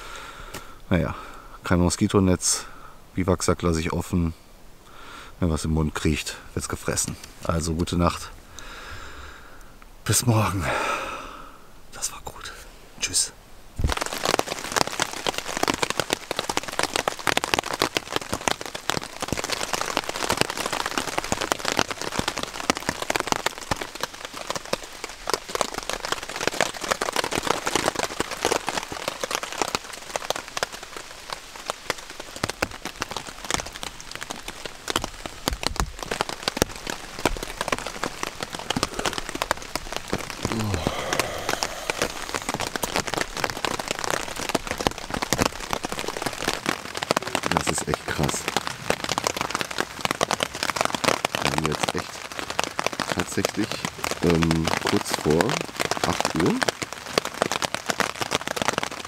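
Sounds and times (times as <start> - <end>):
rain pattering on a tarp: 0.0 - 59.0.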